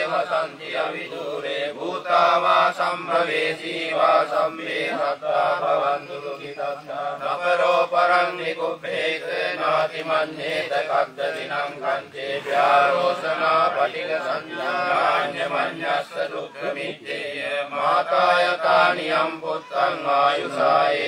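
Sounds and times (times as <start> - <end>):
person chanting verses: 0.0 - 21.0.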